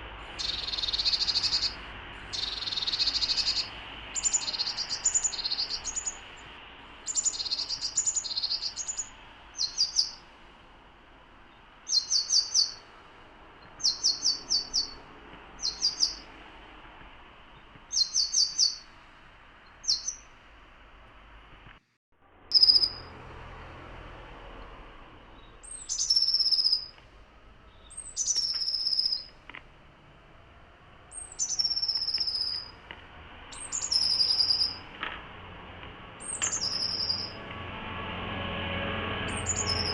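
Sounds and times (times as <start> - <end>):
small songbirds chirping: 0.0 - 20.4, 22.5 - 23.8, 24.6 - 29.6, 31.0 - 34.9, 36.2 - 37.4, 39.3 - 39.9.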